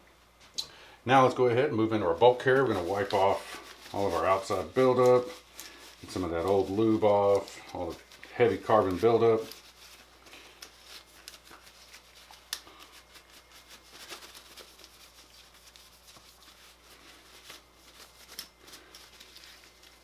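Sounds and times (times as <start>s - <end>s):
paper towel rubbing metal: 1.3s - 20.0s.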